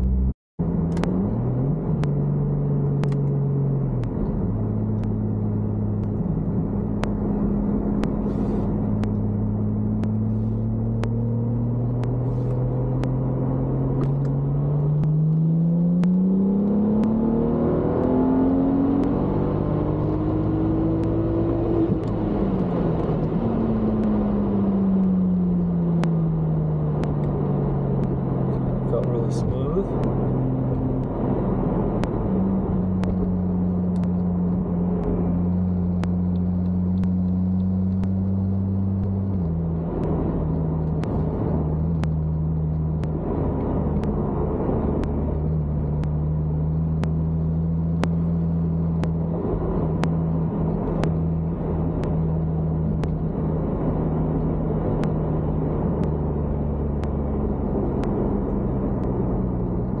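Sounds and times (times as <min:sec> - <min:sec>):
car engine humming: 0:00.0 - 1:00.0.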